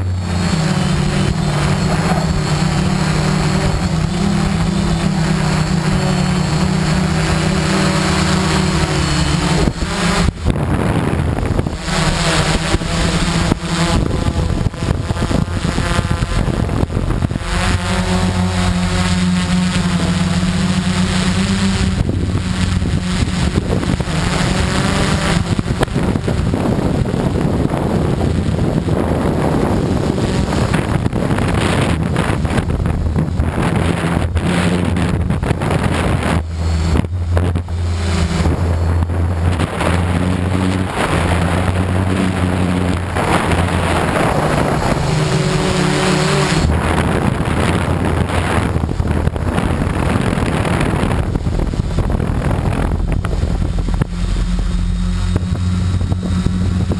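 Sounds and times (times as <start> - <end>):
drone motors and propellers humming: 0.0 - 56.9
wind rushing over microphone: 0.0 - 56.9.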